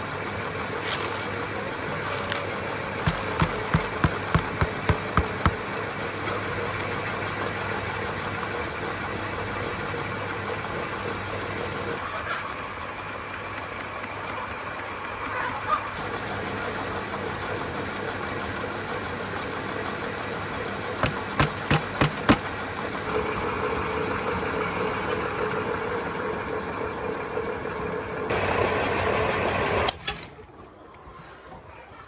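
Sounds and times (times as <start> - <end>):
motor humming: 0.0 - 30.8.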